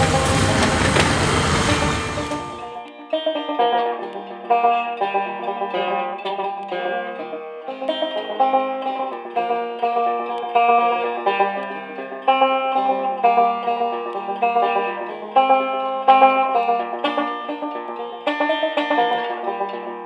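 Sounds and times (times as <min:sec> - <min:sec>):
banjo picking a tune: 0:00.0 - 0:20.0.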